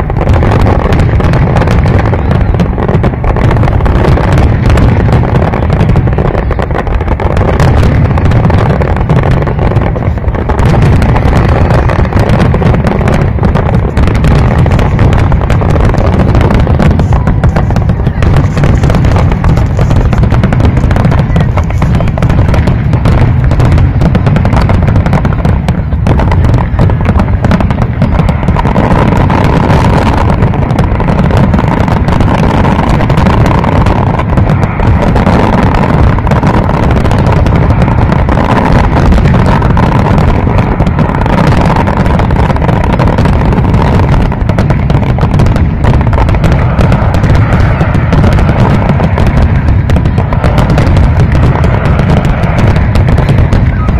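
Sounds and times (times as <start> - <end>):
fireworks bangs and crackles: 0.0 - 53.9
low rumble: 0.0 - 53.9.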